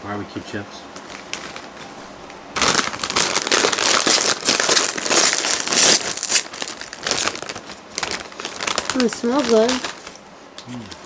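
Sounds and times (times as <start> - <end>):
chip bag crinkling: 1.0 - 10.2, 10.8 - 11.0.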